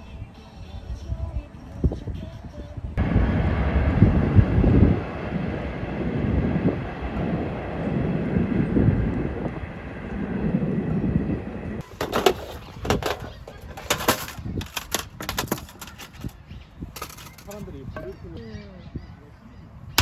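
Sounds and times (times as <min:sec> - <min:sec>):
wind buffeting microphone: 0:01.0 - 0:20.0.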